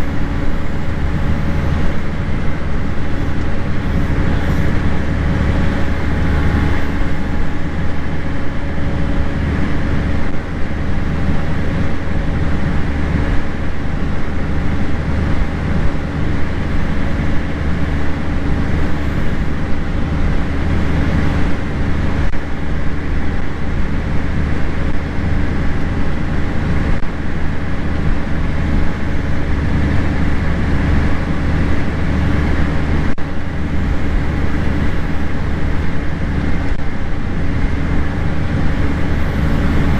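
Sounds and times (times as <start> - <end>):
heavy farm machinery engine hum: 0.0 - 39.9.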